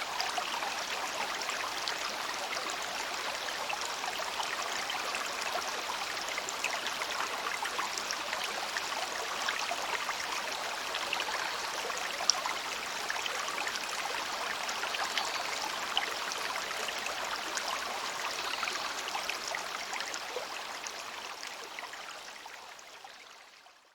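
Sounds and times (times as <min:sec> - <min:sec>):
stream babbling over stones: 0:00.0 - 0:23.5.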